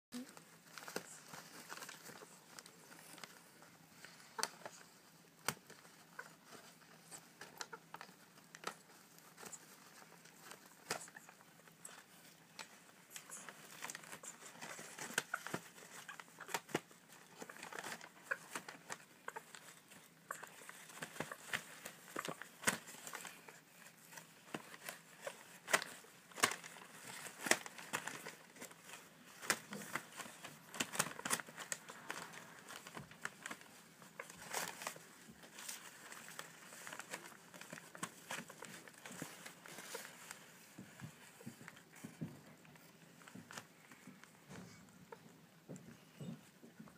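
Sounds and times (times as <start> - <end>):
paper rustling and crinkling: 0.2 - 46.9.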